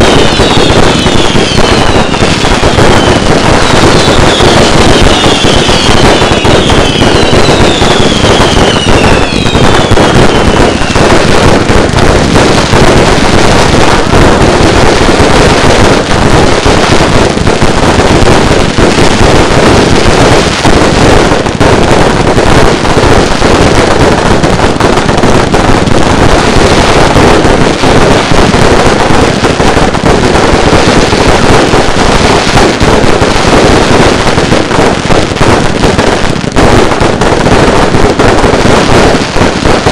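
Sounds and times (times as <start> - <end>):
fireworks bangs and crackling: 0.0 - 39.9
fireworks falling whistles: 0.0 - 39.9.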